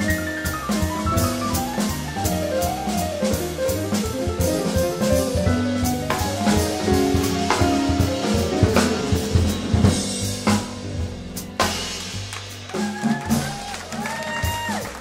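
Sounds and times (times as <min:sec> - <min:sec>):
walking double bass: 0:00.0 - 0:14.7
drum kit snare and cymbals: 0:00.0 - 0:15.0
grand piano solo: 0:00.0 - 0:15.0.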